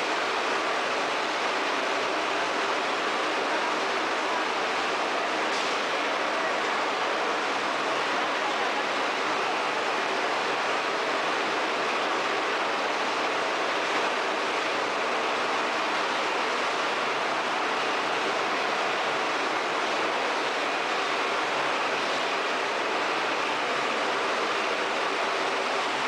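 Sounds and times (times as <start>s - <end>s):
recycling machinery running: 0.0s - 26.0s.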